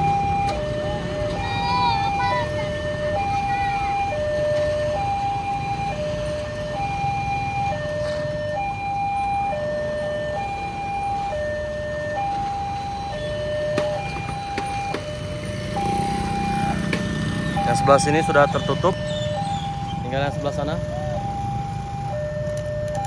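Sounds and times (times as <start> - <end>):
two-tone level crossing alarm: 0.0 - 23.0
vehicles passing over crossing: 0.0 - 23.0.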